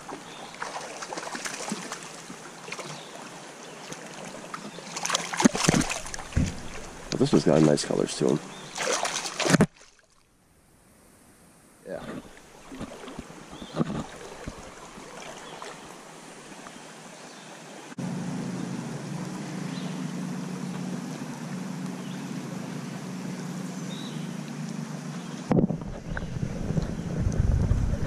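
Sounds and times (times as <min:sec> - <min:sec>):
creek water running: 0:00.0 - 0:10.4, 0:11.8 - 0:27.8.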